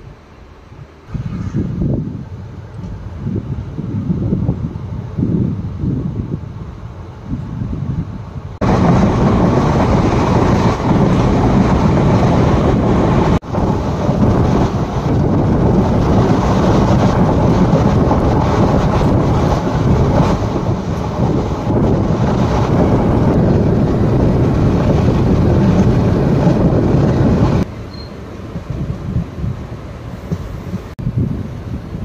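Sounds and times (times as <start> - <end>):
train wheels rumbling on rail: 0.0 - 32.0
wind rushing over microphone: 0.0 - 32.0.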